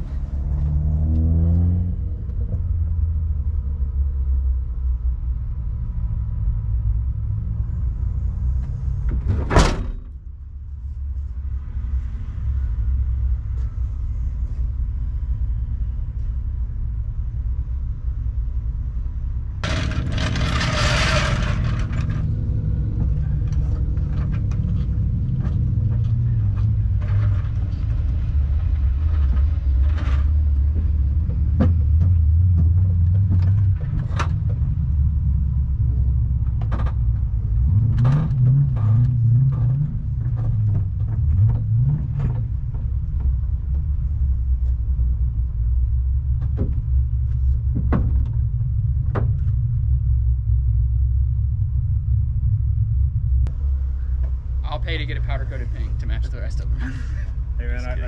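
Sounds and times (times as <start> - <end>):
car engine rumble: 0.0 - 58.0.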